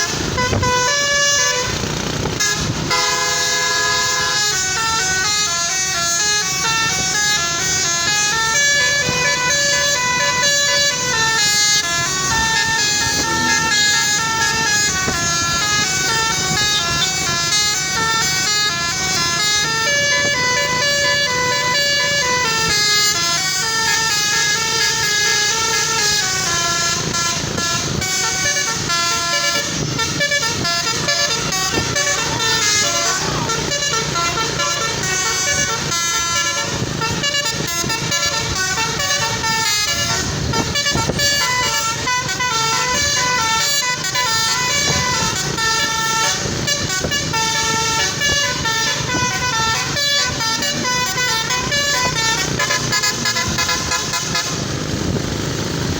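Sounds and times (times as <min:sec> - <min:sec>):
bus noise: 0:00.0 - 0:55.9
multi-tone bus horn melody: 0:00.0 - 0:55.9.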